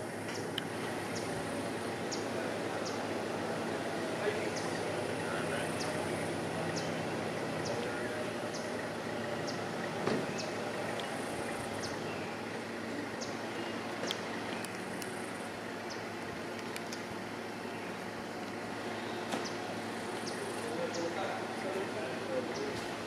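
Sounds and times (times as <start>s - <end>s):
low rumble and hum: 0.0s - 23.0s.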